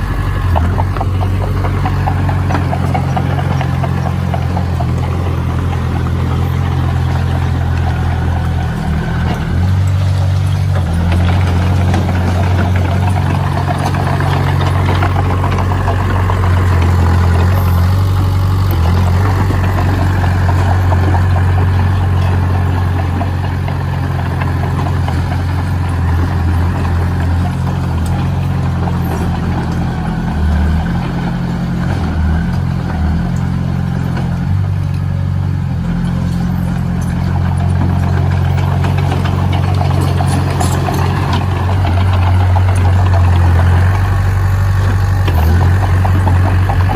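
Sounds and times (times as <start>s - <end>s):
heavy machine engine humming: 0.0s - 46.9s.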